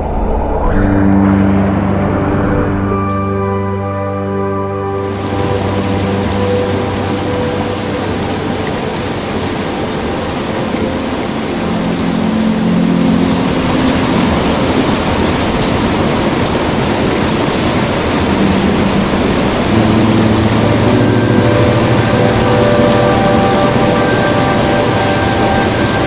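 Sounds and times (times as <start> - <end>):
waterfall rushing: 4.5 - 26.0.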